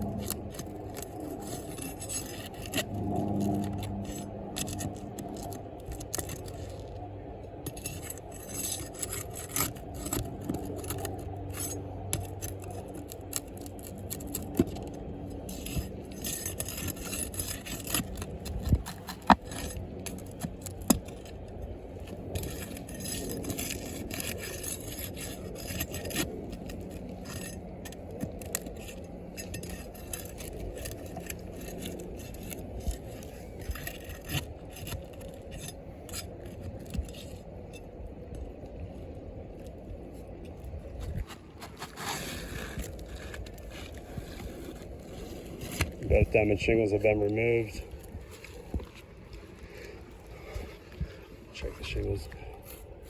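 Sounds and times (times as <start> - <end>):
shingles scraping: 0.0 - 6.9, 7.6 - 37.4, 41.0 - 51.2.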